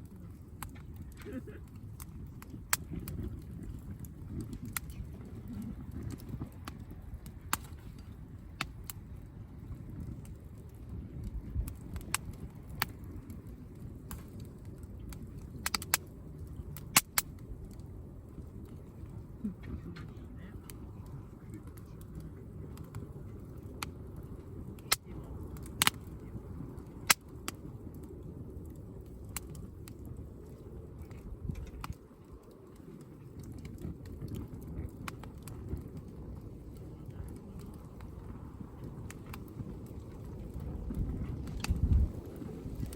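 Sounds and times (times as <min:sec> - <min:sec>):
campfire crackling: 0:00.0 - 0:42.9
low rumble: 0:00.0 - 0:42.9.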